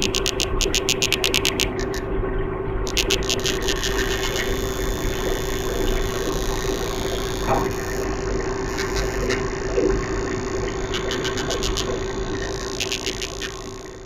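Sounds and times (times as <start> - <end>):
fish rapid clicking calls: 0.0 - 2.1, 2.9 - 14.0
steady low hum: 0.0 - 14.0.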